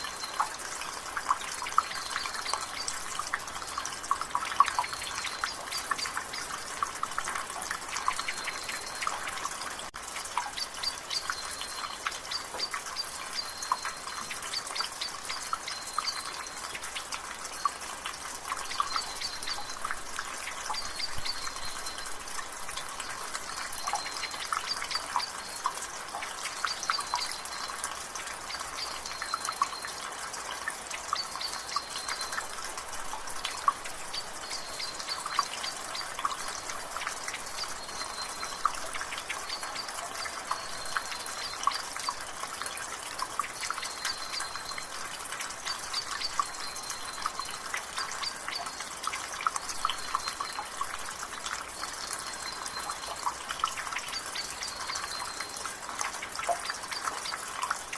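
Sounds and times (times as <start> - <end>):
rain hiss: 0.0 - 57.9
water dripping from a gutter: 0.0 - 57.9.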